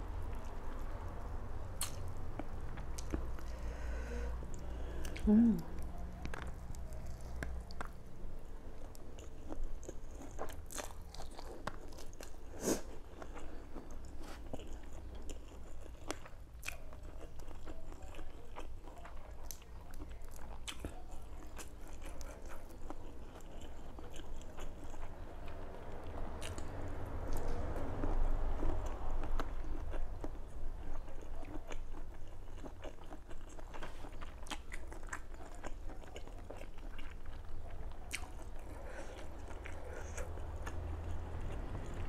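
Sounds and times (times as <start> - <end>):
steady low hum: 0.0 - 16.3, 20.8 - 42.0
person chewing and crunching: 1.7 - 26.7, 27.3 - 42.0.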